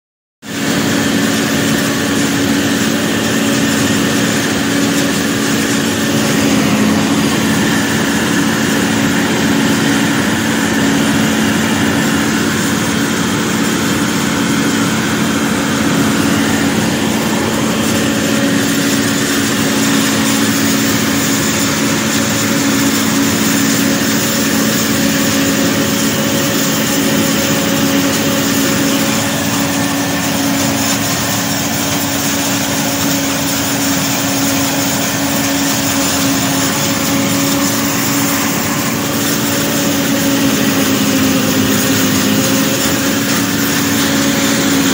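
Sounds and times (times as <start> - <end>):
tractor and forage harvester drone: 0.4 - 44.9.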